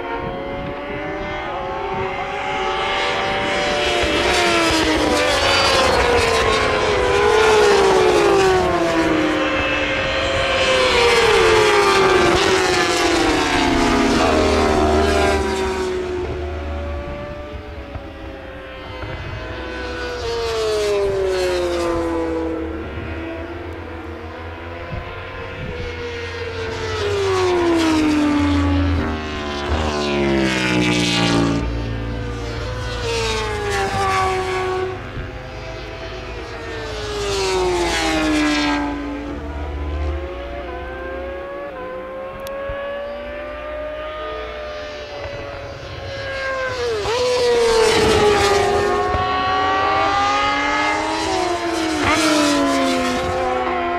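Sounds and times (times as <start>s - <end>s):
racing motorcycles passing: 0.0s - 53.9s.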